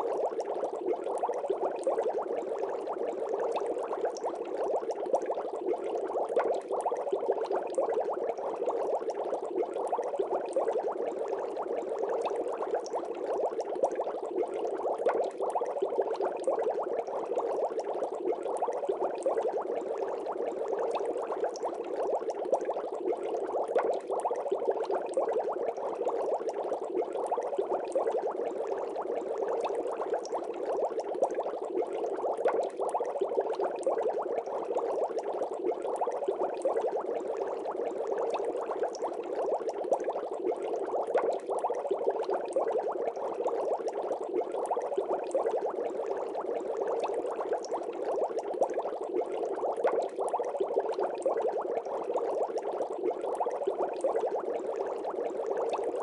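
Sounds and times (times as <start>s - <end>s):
aquarium water bubbling: 0.0s - 56.0s.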